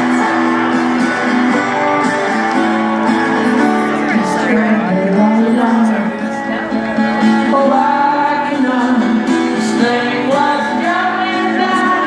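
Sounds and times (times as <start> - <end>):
live rock band music: 0.0 - 12.0
strummed acoustic guitar: 0.0 - 12.0
person singing: 1.6 - 12.0.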